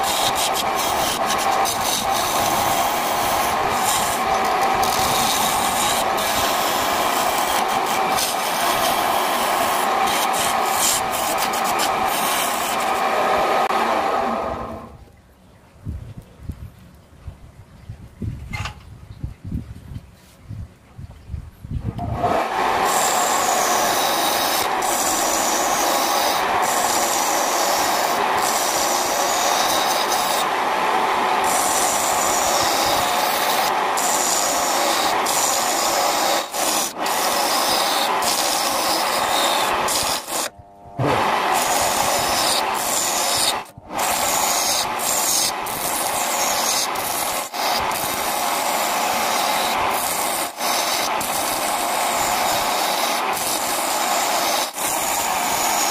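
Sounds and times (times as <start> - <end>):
wood lathe tool rasping: 0.0 - 14.8, 22.2 - 55.9.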